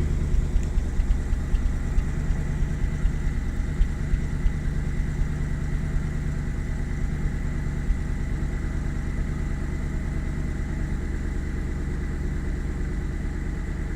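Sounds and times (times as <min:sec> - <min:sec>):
car engine idling unevenly: 0:00.0 - 0:13.9.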